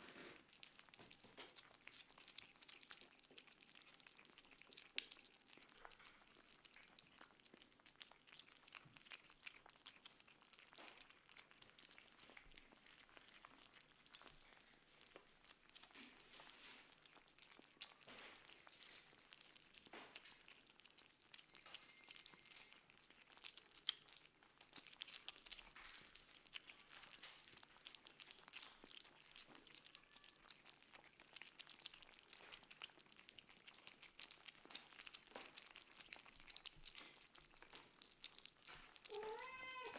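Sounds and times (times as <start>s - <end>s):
kittens eating wet food: 0.0s - 39.9s.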